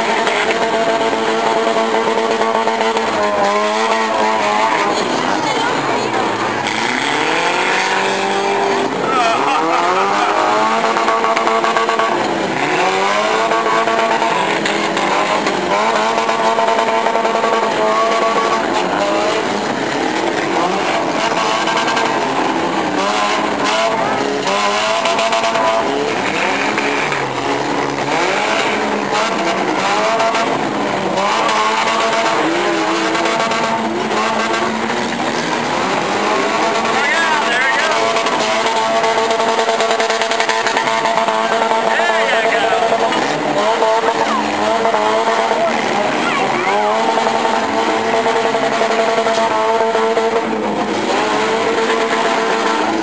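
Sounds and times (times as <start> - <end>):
car engines revving hard: 0.0 - 53.0
tyres spinning on dirt: 0.0 - 53.0.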